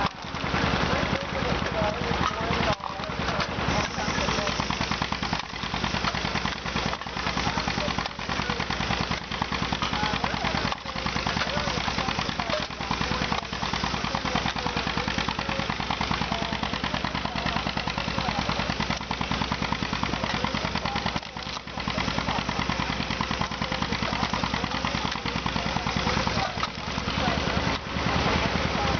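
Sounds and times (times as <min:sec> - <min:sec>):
can crusher mechanical pulsing: 0:00.0 - 0:28.9.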